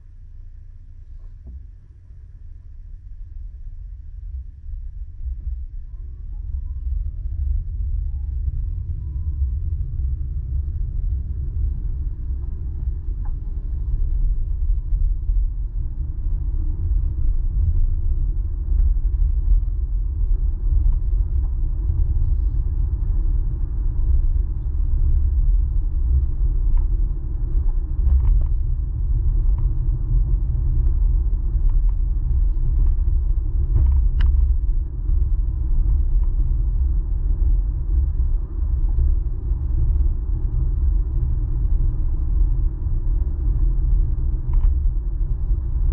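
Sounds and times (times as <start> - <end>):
car road rumble: 0.0 - 45.9.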